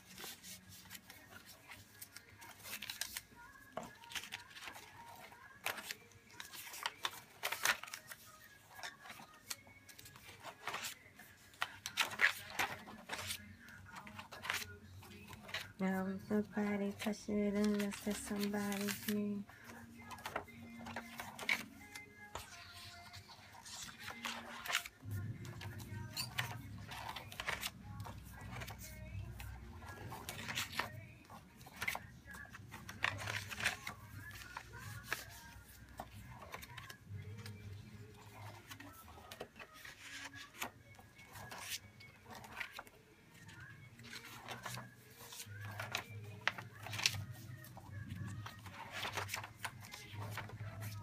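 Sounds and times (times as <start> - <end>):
paper pages turning: 0.0 - 51.0.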